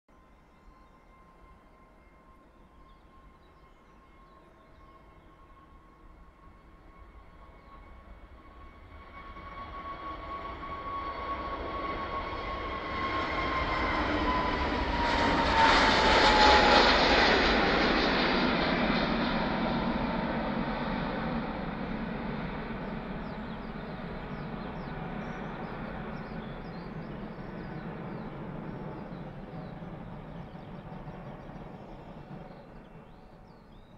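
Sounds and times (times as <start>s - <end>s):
jet engines at takeoff: 0.2s - 33.9s.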